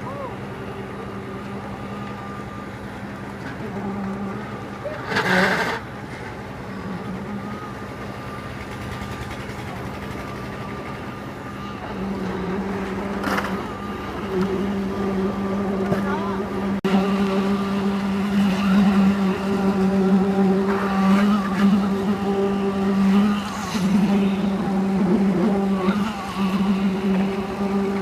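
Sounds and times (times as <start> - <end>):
heavy engine running: 0.0 - 28.0.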